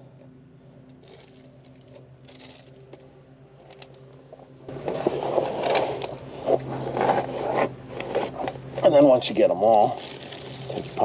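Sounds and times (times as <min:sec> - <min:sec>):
faint steady hum: 0:00.0 - 0:11.0
rustling and scraping handling noise: 0:00.8 - 0:11.0.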